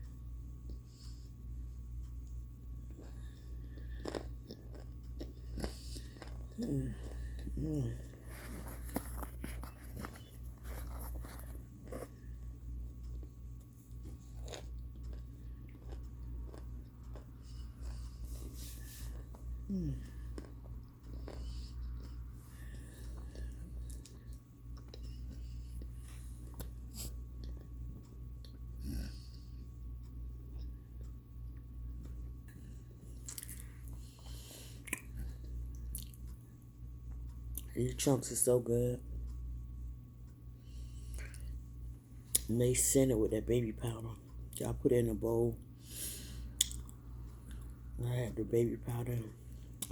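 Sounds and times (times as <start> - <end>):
steady low hum: 0.0 - 49.9
crunching and chewing: 2.0 - 29.7, 30.4 - 37.8, 40.6 - 42.9, 46.2 - 47.9, 48.8 - 49.9.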